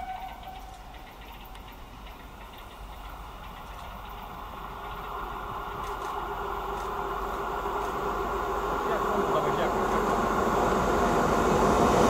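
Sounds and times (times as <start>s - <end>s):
diesel train approaching: 0.0s - 12.0s.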